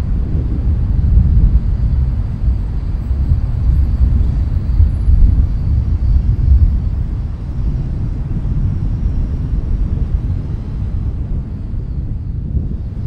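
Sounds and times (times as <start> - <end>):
distant city hum: 0.0 - 13.0
wind buffeting microphone: 0.0 - 13.0.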